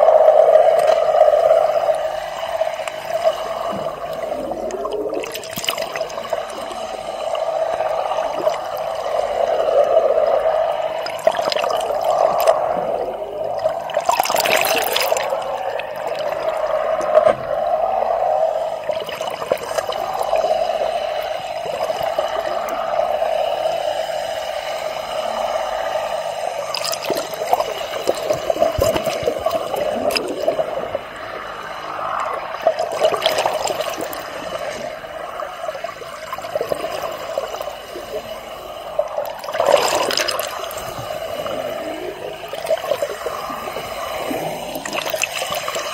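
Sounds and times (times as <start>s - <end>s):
underwater rushing water: 0.0s - 45.9s
water swooshes: 0.0s - 45.9s.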